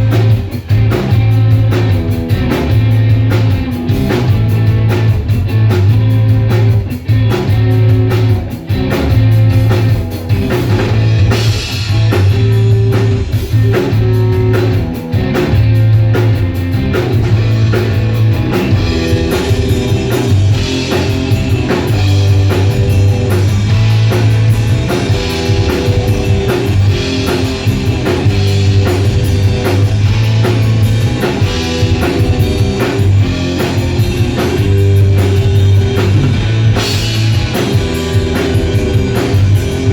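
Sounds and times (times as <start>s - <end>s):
drum kit: 0.0s - 39.9s
guitar: 0.0s - 39.9s
low bass line: 0.0s - 39.9s.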